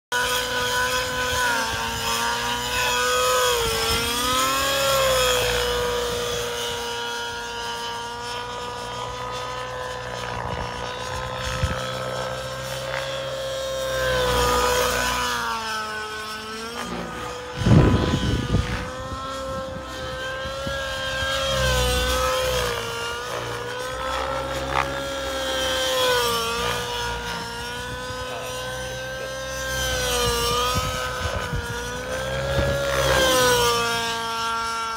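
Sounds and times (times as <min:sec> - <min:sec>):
model helicopter engine whining: 0:00.1 - 0:34.9.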